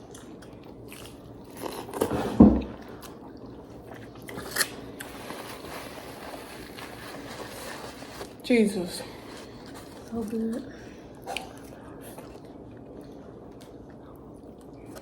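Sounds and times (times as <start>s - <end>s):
chewing and biting food: 0.0s - 7.0s, 9.5s - 15.0s.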